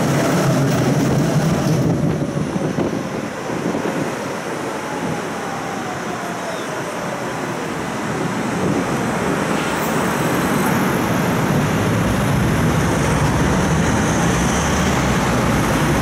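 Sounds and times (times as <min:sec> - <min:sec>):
road traffic: 0:00.0 - 0:16.0
tram running rumble: 0:00.0 - 0:16.0.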